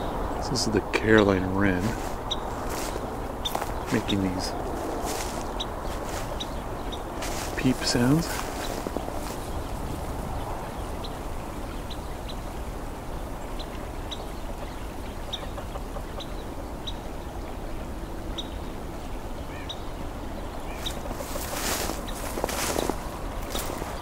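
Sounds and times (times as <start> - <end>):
low background noise: 0.0 - 24.0
wren peep calls: 0.0 - 24.0.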